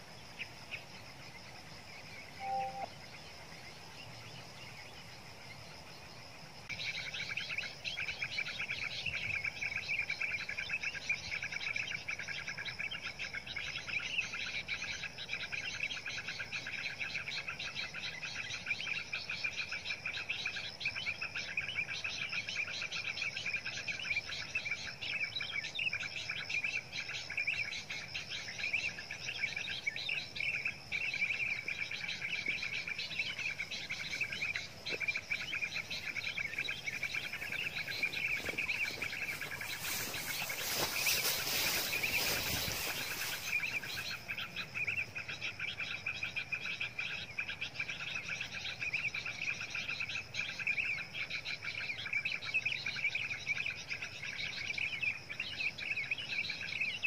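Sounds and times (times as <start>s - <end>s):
high bird twittering and trilling: 2.2s - 3.1s, 6.7s - 57.0s.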